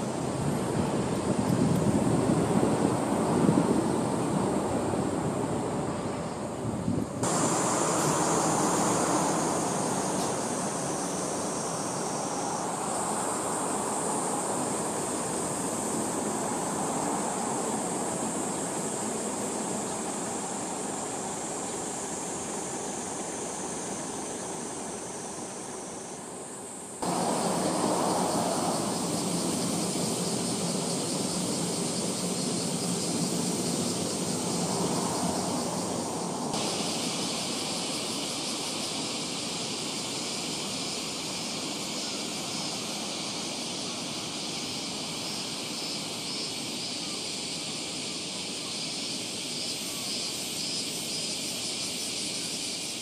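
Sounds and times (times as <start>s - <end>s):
cicadas droning: 0.0s - 53.0s
distant traffic hum: 0.0s - 53.0s.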